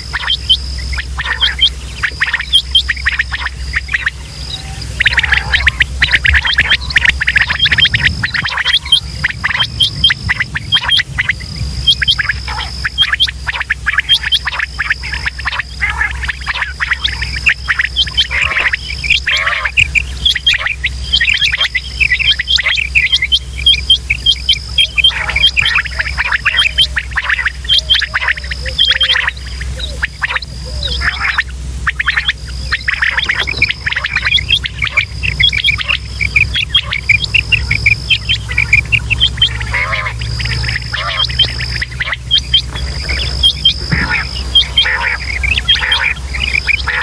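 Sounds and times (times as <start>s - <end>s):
quail calling: 0.0s - 47.0s.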